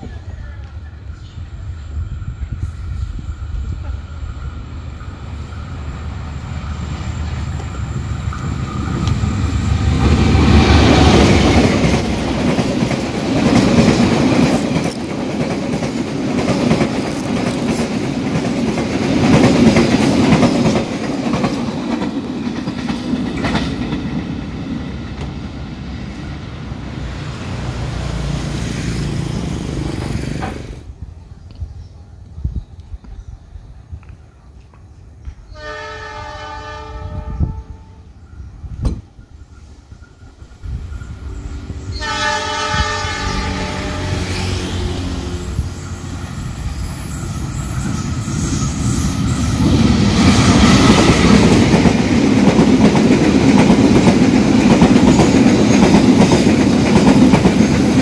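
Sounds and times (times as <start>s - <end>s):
train passing: 0.0s - 32.4s, 33.2s - 58.0s.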